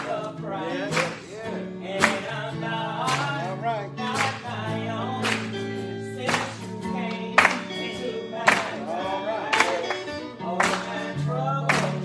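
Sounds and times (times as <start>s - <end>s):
gospel choir and band: 0.0s - 12.0s.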